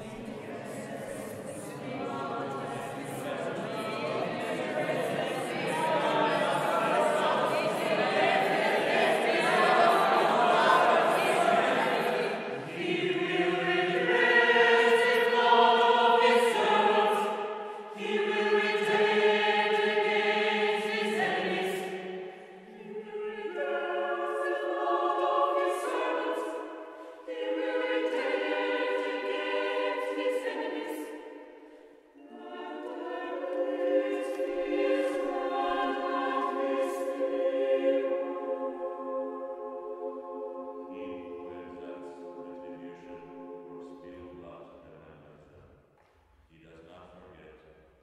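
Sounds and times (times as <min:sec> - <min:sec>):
choir singing a cappella: 0:00.0 - 0:45.6.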